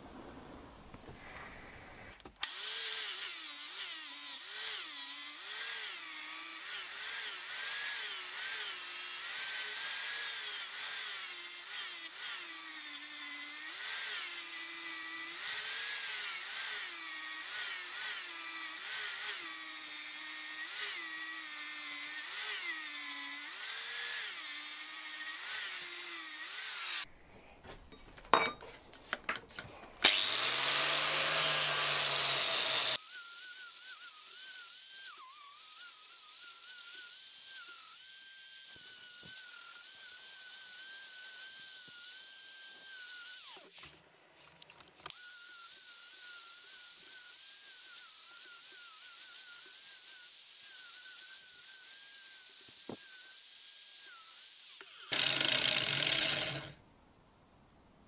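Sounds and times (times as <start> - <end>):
angle grinder sanding steel: 2.5 - 27.1, 30.0 - 43.8, 45.2 - 56.8.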